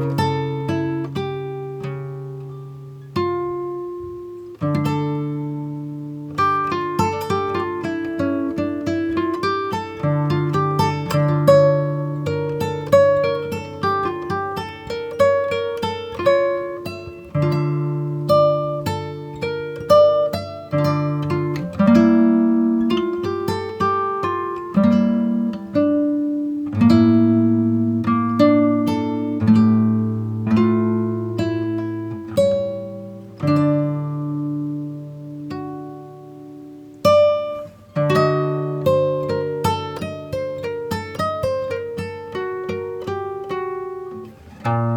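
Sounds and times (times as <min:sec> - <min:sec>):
plucked guitar music: 0:00.0 - 0:44.9.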